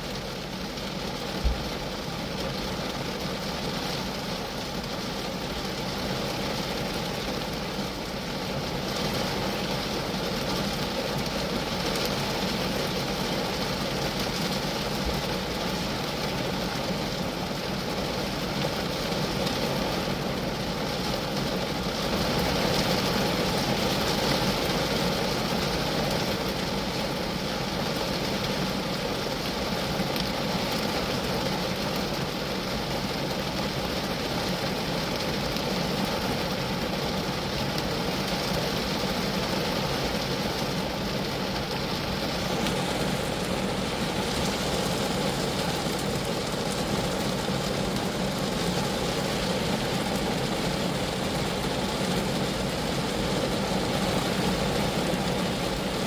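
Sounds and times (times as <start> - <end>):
rain pattering on a car: 0.0 - 56.0.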